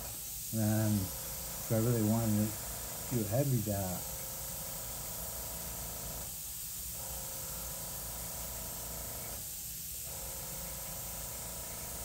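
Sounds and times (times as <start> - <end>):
airbrush spraying hiss: 0.0 - 12.0.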